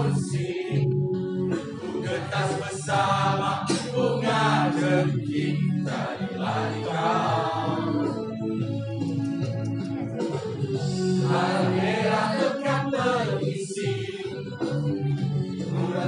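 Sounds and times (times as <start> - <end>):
group of voices singing: 0.0 - 8.6, 10.7 - 16.0.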